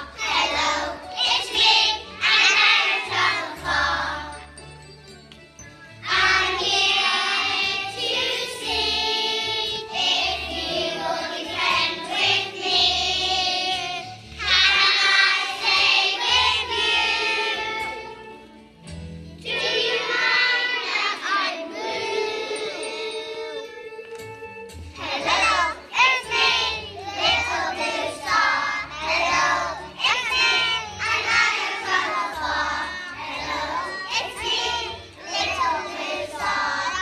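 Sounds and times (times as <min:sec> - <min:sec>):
children singing: 0:00.0 - 0:04.4, 0:06.0 - 0:18.4, 0:19.4 - 0:24.0, 0:25.0 - 0:37.0
musical accompaniment with bass: 0:00.0 - 0:21.1, 0:21.8 - 0:37.0.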